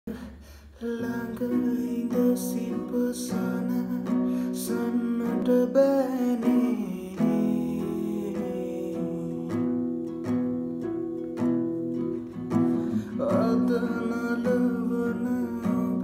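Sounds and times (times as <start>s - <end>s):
acoustic guitar chords: 0.1s - 16.0s.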